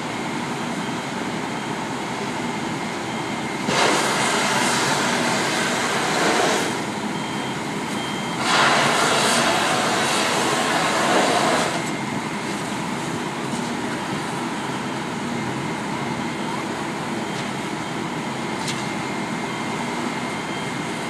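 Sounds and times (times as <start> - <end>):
fire truck engine and pump running: 0.0 - 21.0.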